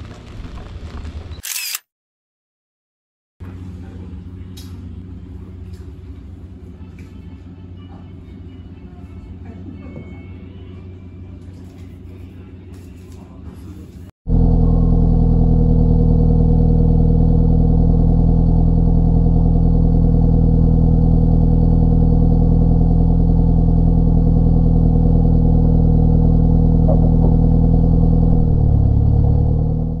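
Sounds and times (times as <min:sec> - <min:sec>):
engine running steadily: 0:03.4 - 0:12.7, 0:14.3 - 0:30.0.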